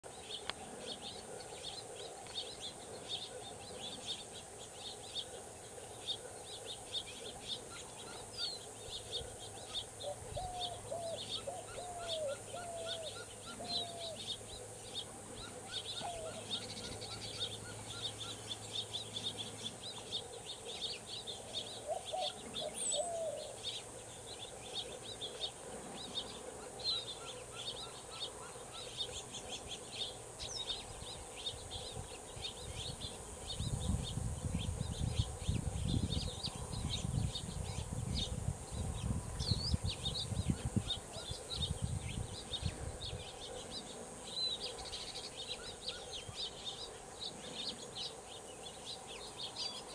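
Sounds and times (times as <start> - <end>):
birds chipping: 0.0 - 49.9.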